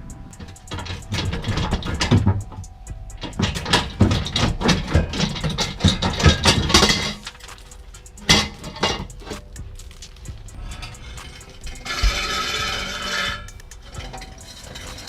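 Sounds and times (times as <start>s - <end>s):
metal exhaust pipe clanking: 0.0s - 15.0s.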